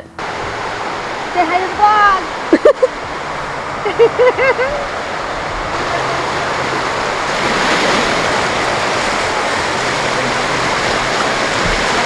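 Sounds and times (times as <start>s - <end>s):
loud rushing noise: 0.0s - 12.0s.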